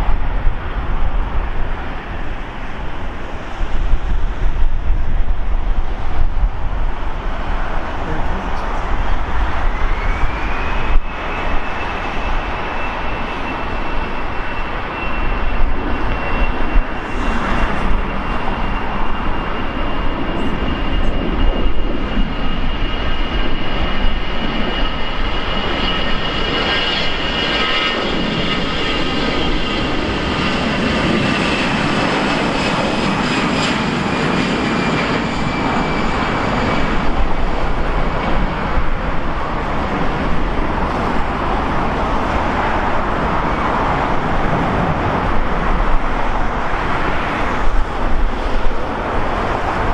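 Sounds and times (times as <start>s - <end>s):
jet engines roaring and whining: 0.0s - 49.9s.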